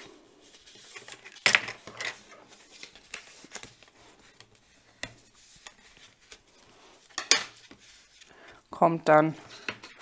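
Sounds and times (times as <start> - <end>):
paper rustling: 0.4 - 8.5.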